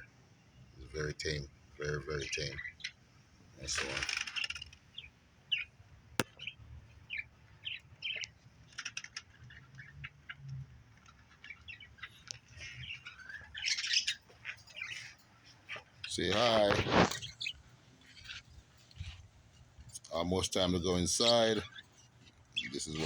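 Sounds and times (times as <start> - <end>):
budgerigars chirping: 1.0 - 3.0, 3.6 - 10.4, 11.0 - 19.2, 20.2 - 23.0.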